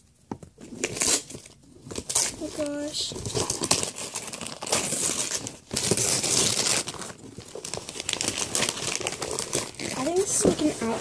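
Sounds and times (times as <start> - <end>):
wrapping paper crinkling and tearing: 0.6 - 11.0.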